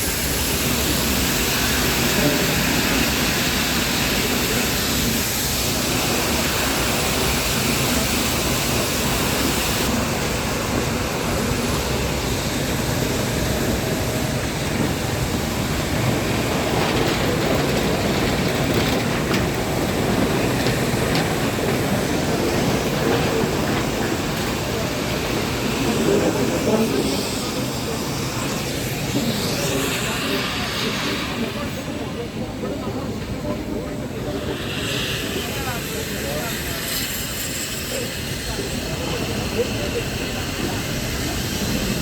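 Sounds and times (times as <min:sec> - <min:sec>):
train rumbling and rushing: 0:00.0 - 0:42.0.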